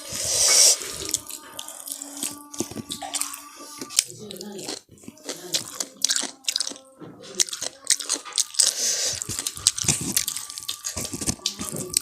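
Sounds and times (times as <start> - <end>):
crunchy chewing of food: 0.0 - 12.0.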